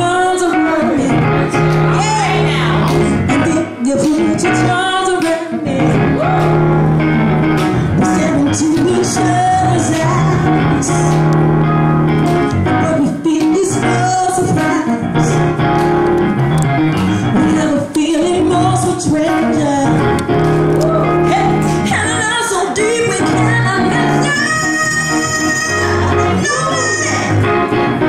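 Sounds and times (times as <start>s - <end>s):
woman singing into microphone: 0.0s - 6.7s, 8.0s - 11.4s, 12.7s - 15.5s, 17.3s - 27.4s
electric keyboard chords: 0.0s - 28.0s.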